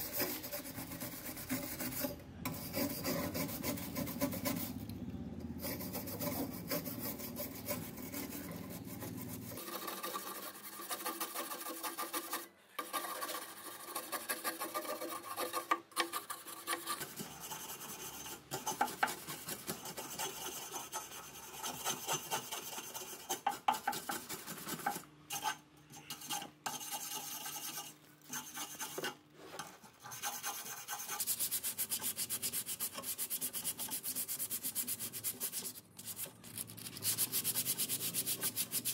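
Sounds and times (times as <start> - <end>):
wire brush scrubbing rusty metal: 5.6 - 29.2, 29.9 - 38.9.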